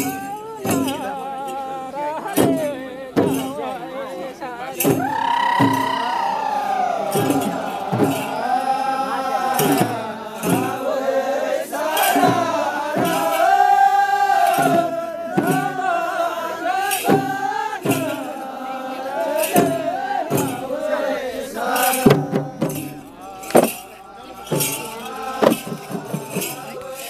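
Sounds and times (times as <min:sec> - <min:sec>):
steady percussion beat: 0:00.0 - 0:04.0, 0:04.7 - 0:27.0
folk singing: 0:00.0 - 0:27.0.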